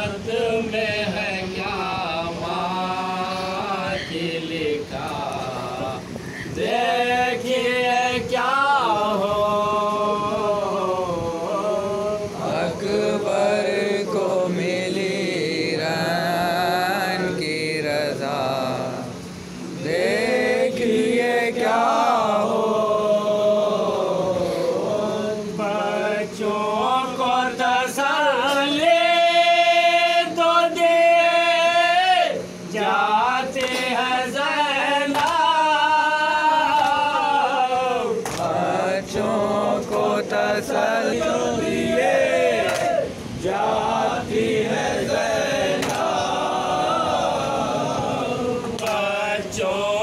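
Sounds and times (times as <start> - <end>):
men chanting a mourning lament: 0.0 - 50.0.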